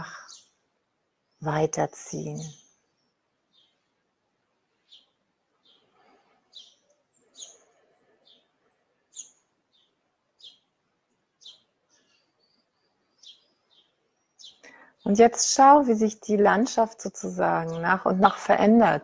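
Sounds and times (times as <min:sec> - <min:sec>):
small bird chirping: 0:00.0 - 0:00.6, 0:01.2 - 0:04.0, 0:04.7 - 0:18.7.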